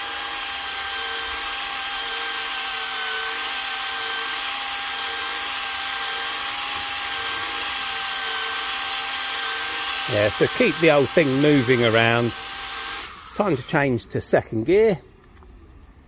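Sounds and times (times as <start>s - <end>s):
rotary polisher motor whine: 0.0s - 13.7s.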